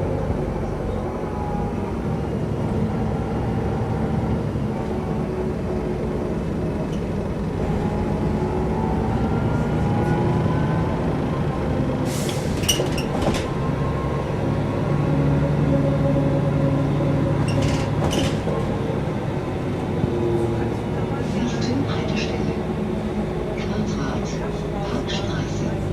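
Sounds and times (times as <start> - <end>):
bus diesel engine running: 0.0 - 25.9.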